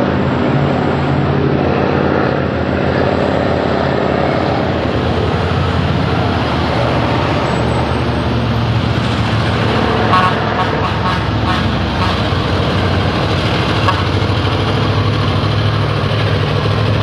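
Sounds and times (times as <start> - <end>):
diesel trucks climbing: 0.0 - 17.0
traffic noise: 0.0 - 17.0.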